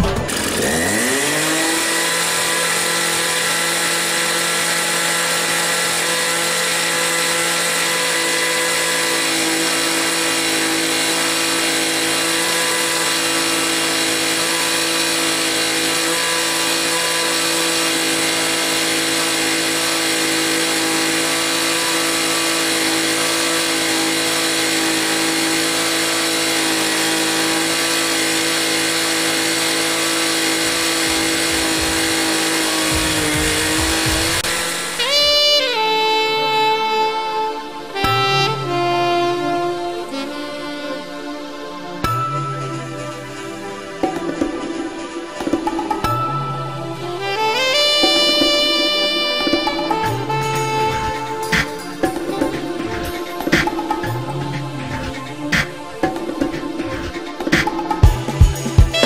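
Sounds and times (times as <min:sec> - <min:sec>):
motor running with steady whine: 0:00.0 - 0:44.5, 0:47.4 - 0:55.6.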